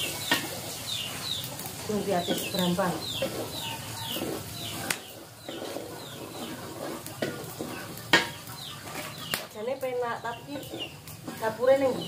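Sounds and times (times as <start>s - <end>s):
birds chirping: 0.0s - 12.0s
food frying in a wok: 0.0s - 12.0s.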